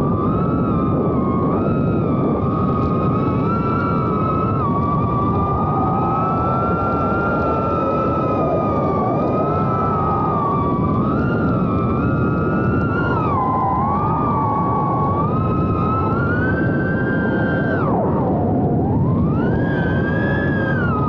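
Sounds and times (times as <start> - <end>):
quadcopter motors whining: 0.0 - 21.0
wind rushing: 0.0 - 21.0.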